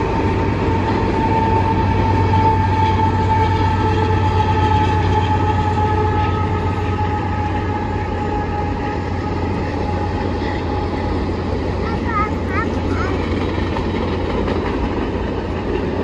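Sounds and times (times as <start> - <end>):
diesel locomotive engine hum: 0.0 - 16.0
train wheels on rails: 0.0 - 16.0.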